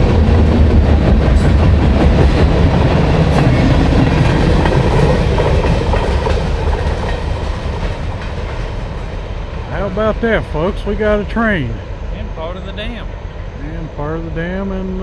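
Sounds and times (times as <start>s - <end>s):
freight train rumbling past: 0.0s - 15.0s
train wheels clattering on track: 0.0s - 15.0s.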